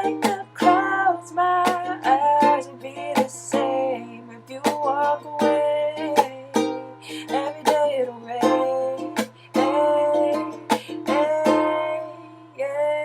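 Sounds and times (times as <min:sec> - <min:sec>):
ukulele strumming: 0:00.0 - 0:13.0
woman singing wordless notes: 0:00.0 - 0:13.0.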